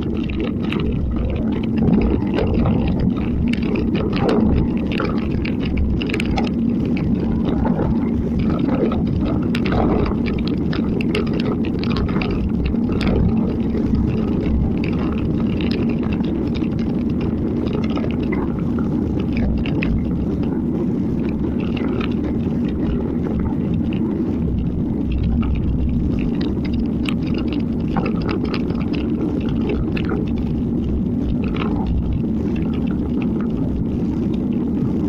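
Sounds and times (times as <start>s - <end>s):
small ticks and clicks: 0.0s - 35.0s
wet road noise: 0.0s - 35.0s
wind rumble on microphone: 0.0s - 35.0s.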